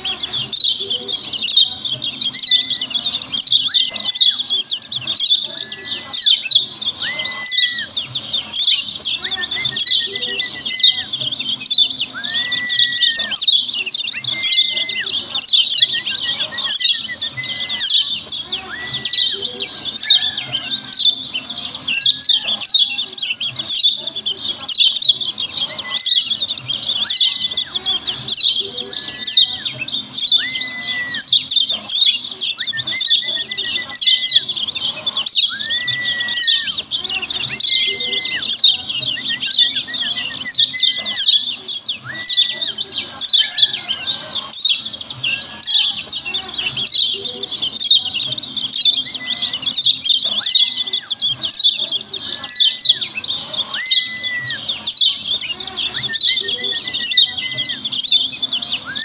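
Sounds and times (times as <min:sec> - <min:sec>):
bird giving harsh rapid chirps: 0:00.0 - 0:59.0.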